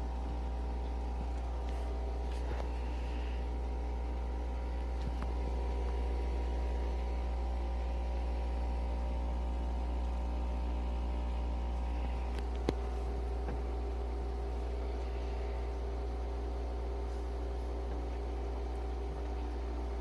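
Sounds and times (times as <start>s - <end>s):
coffee machine motor hum: 0.0s - 20.0s.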